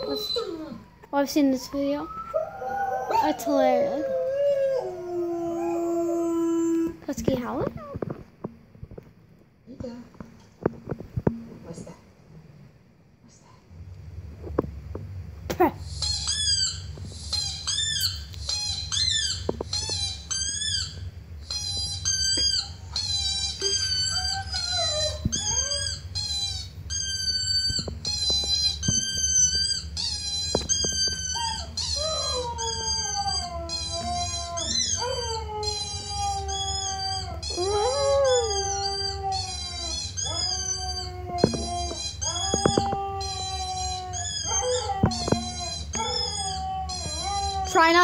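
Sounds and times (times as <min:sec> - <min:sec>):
recorded huskies howling and yipping: 0:00.0 - 0:08.1, 0:17.4 - 0:48.0
low steady hum: 0:00.0 - 0:48.0.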